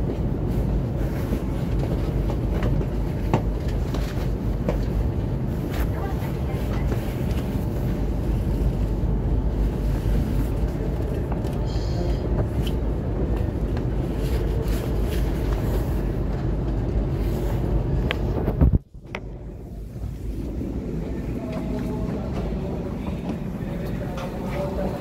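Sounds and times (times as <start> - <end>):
low rumble inside train car: 0.0 - 25.0.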